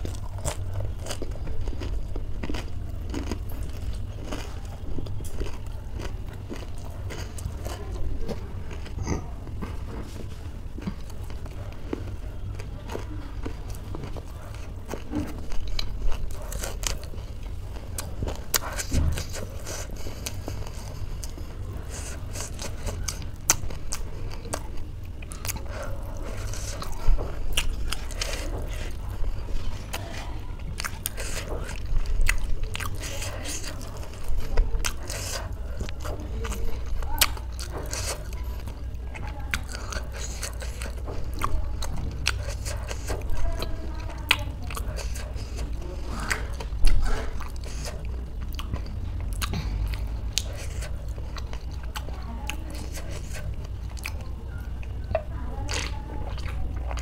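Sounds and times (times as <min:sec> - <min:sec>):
chewing and crunching snack food: 0:00.0 - 0:57.0
steady low hum: 0:00.0 - 0:57.0.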